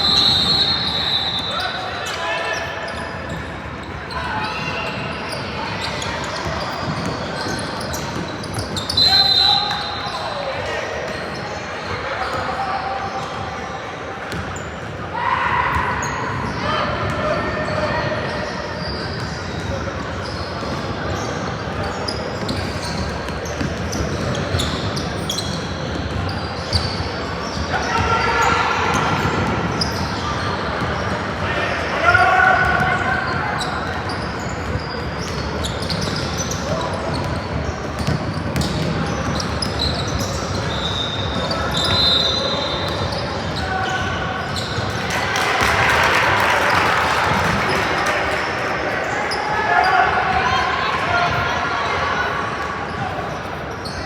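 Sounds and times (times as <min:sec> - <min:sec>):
sneakers squeaking on gym floor: 0:00.0 - 0:15.0, 0:15.6 - 0:45.8, 0:52.8 - 0:54.0
murmur of voices echoing: 0:00.0 - 0:54.0.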